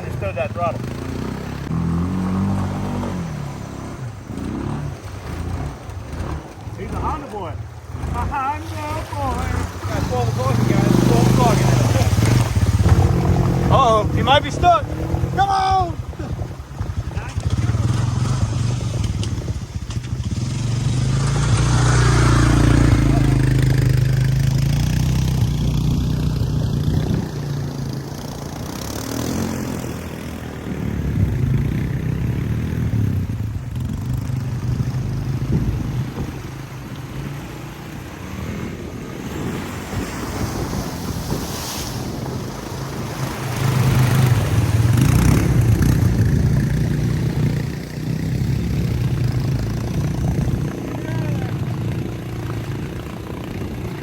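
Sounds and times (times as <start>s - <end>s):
quad bike engine under throttle: 0.0s - 54.0s
water noise: 0.0s - 54.0s.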